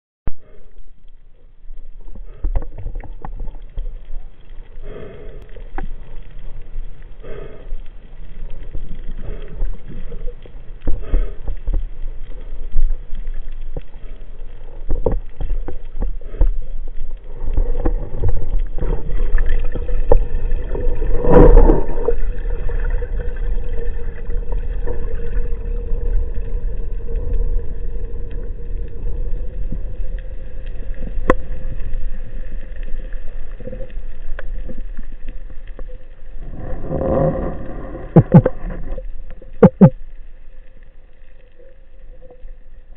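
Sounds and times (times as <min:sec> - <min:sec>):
underwater low rumble: 0:00.3 - 0:42.9
clicks and knocks underwater: 0:00.4 - 0:42.9.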